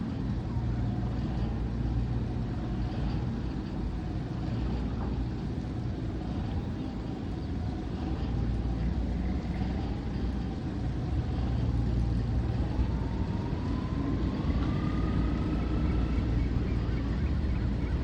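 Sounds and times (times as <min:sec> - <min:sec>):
boat engine rumbling: 0:00.0 - 0:18.0
thin whine: 0:00.0 - 0:18.0.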